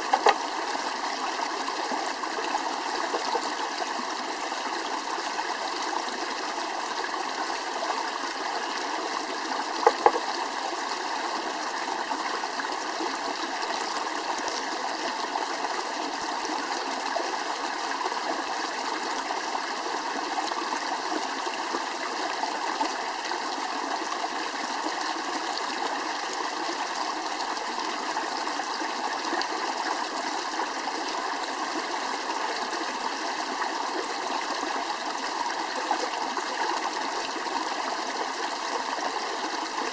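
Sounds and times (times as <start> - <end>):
flowing stream rushing: 0.0 - 39.9.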